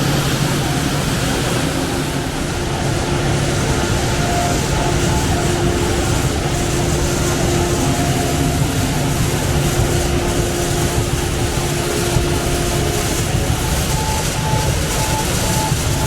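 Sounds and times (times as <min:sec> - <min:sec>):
machinery mechanical din: 0:00.0 - 0:16.0
steady hums: 0:00.0 - 0:16.0.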